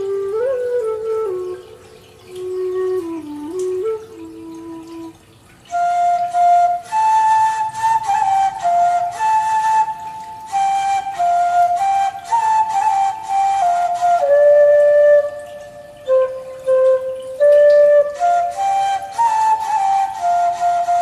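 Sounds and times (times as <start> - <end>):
flute-like melody: 0.0 - 21.0.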